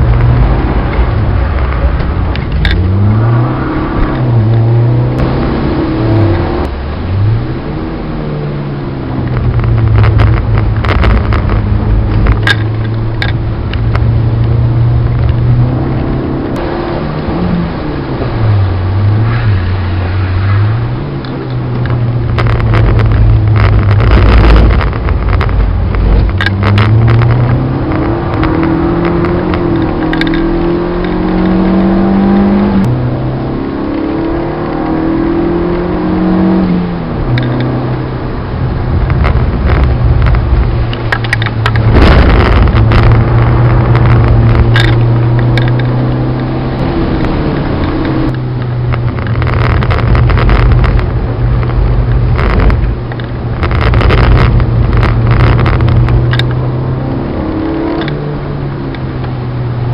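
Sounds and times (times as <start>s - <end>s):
car engine revving from inside cabin: 2.7s - 6.7s, 14.0s - 19.3s, 20.5s - 40.8s, 41.5s - 59.9s.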